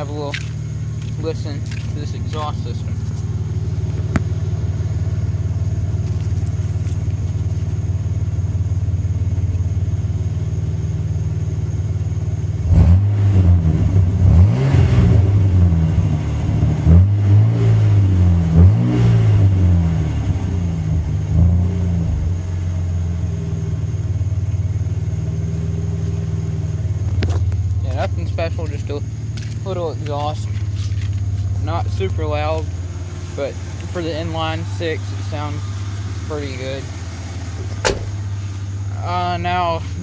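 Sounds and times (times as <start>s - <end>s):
truck engine idling and revving: 0.0s - 40.0s.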